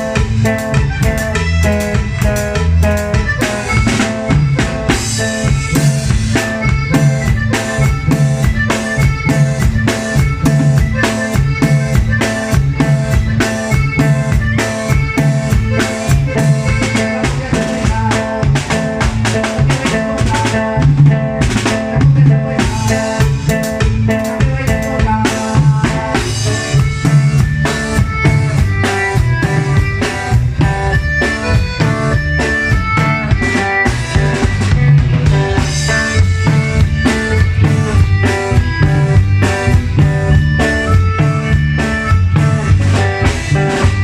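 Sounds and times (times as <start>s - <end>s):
band playing cumbia: 0.0s - 44.0s
drum kit beat: 0.0s - 44.0s.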